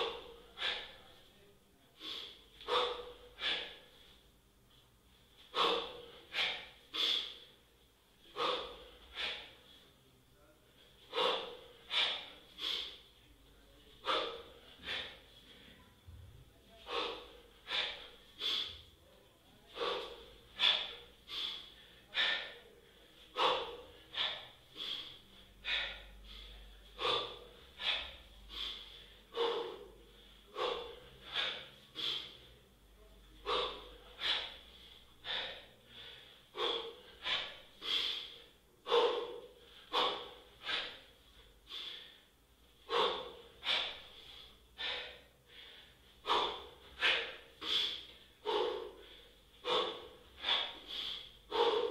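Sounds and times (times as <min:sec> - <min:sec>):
man breathing forcefully: 0:00.0 - 0:51.9.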